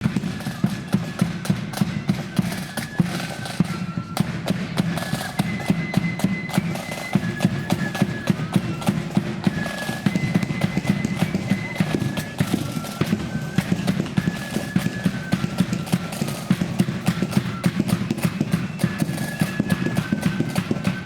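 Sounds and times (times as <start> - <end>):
high flutes playing melody: 0.0 - 21.0
snare drum strikes: 0.0 - 21.0.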